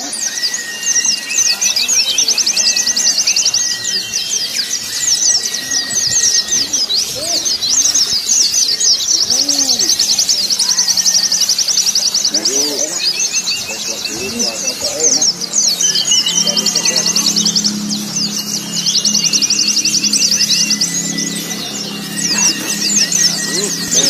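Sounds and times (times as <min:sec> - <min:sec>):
birds twittering chorus: 0:00.0 - 0:24.0
low rising-and-falling calls: 0:00.0 - 0:24.0
whistled bird notes: 0:00.0 - 0:24.0.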